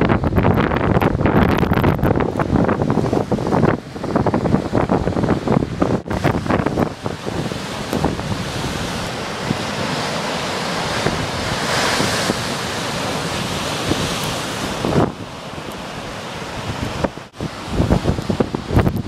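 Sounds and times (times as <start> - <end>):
waves breaking on rocky shore: 0.0 - 19.0
wind buffeting microphone: 0.0 - 19.0.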